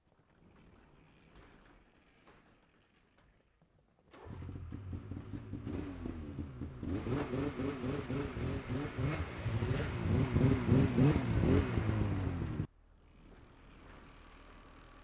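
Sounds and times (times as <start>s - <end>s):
snowmobile engine starting and idling: 0.2s - 15.0s.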